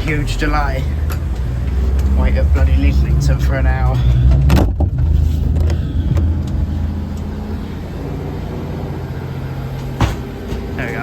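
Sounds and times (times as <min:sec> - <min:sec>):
train engine drone: 0:00.0 - 0:11.0
train running noise: 0:00.0 - 0:11.0.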